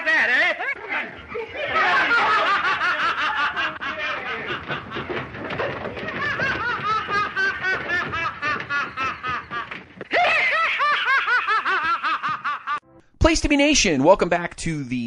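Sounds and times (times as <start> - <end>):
man laughing madly: 0.0 - 12.8.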